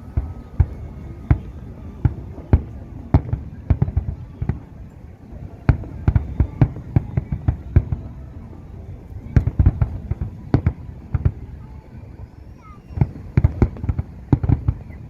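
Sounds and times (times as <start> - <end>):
fireworks bangs and cracks: 0.0 - 4.8, 5.4 - 8.5, 9.1 - 11.7, 12.9 - 15.0.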